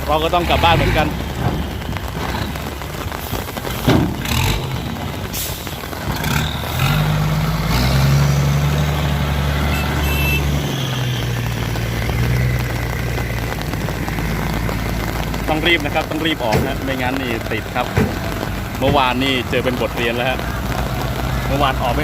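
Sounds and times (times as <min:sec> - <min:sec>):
diesel truck engine running: 0:00.0 - 0:22.0
rain hiss: 0:00.0 - 0:22.0.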